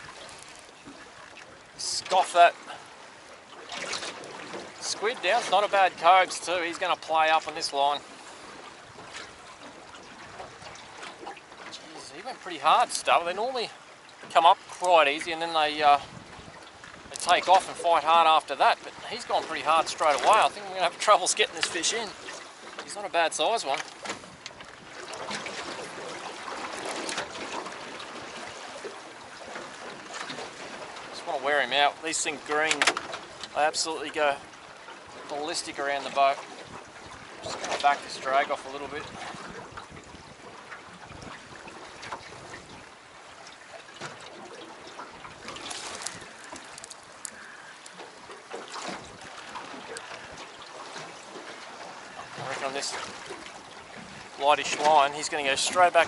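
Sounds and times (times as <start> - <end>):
splashes: 0.0 - 56.0
water lapping around boat: 0.0 - 56.0.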